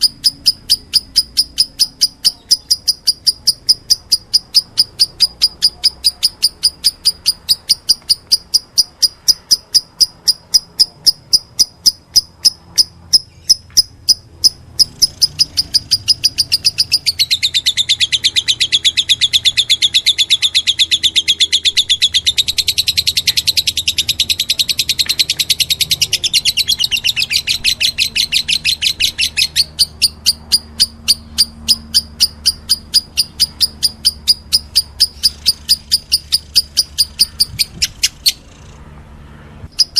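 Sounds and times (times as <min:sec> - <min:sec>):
lovebirds chirping: 0:00.0 - 0:39.0, 0:39.7 - 0:39.9.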